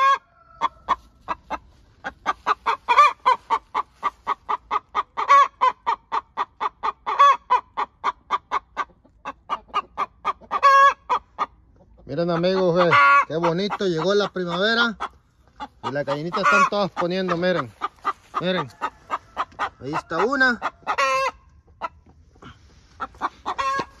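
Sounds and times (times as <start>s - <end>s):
hen clucking: 0.0s - 24.0s.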